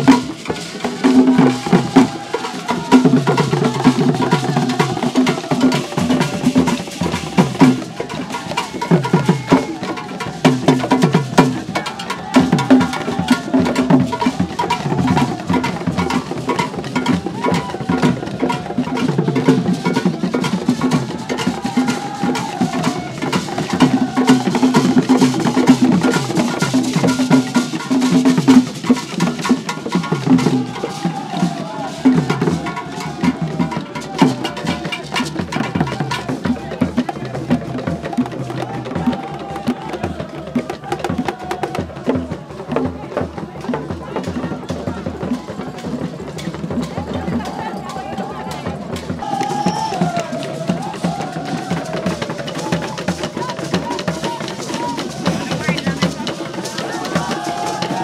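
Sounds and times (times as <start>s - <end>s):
hand drums fast dance rhythm: 0.0s - 58.0s.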